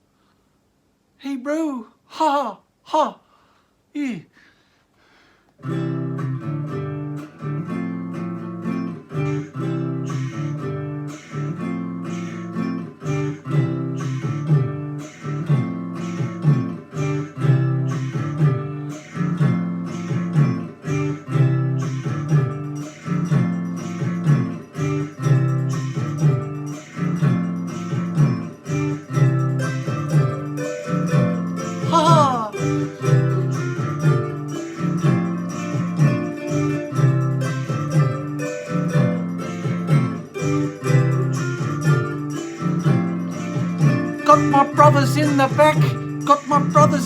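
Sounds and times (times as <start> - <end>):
guitar strumming chords: 5.6 - 47.0.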